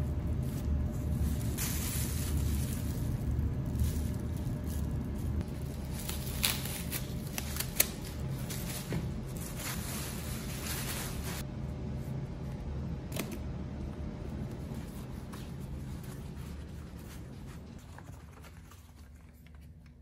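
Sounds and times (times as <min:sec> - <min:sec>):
steady low hum: 0:00.0 - 0:20.0
plastic and paper crinkling: 0:00.4 - 0:11.4, 0:14.9 - 0:20.0.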